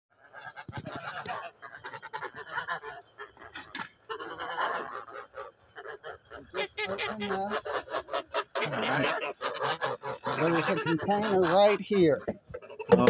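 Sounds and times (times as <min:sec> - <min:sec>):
geese honking: 0:00.1 - 0:13.0.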